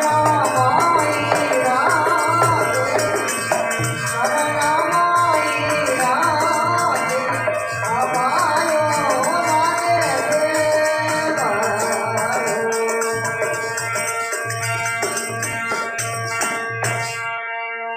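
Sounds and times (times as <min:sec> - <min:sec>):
shaking rattling percussion: 0:00.0 - 0:17.2.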